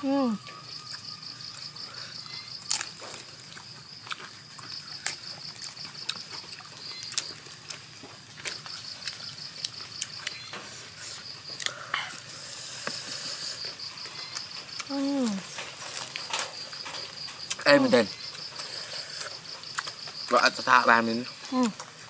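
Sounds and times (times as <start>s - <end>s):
insect trilling: 0.0s - 22.0s
chewing crunches: 0.4s - 22.0s.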